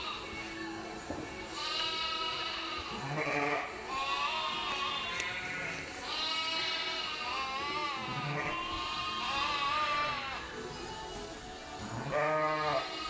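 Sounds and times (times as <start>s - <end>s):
sheep and lambs bleating: 0.0s - 0.4s, 1.5s - 10.8s, 11.8s - 13.0s.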